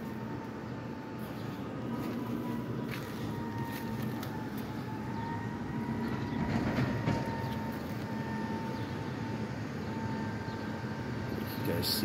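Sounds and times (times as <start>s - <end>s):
garbage truck engine whine: 0.0s - 12.0s.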